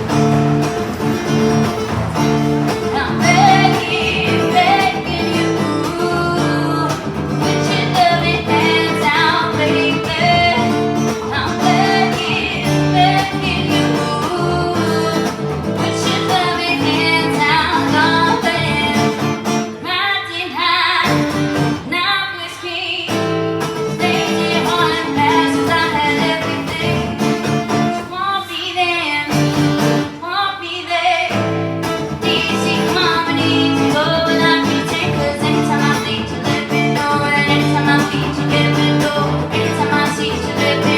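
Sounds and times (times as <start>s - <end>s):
strummed acoustic guitar: 0.0s - 20.2s, 21.0s - 22.0s, 23.0s - 30.3s, 31.3s - 40.9s
woman singing: 0.0s - 40.9s.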